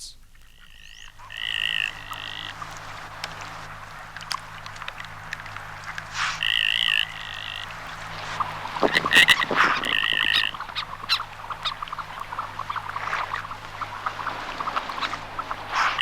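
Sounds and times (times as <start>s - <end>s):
wavering whistled duck calls: 0.0s - 4.6s, 6.1s - 16.0s.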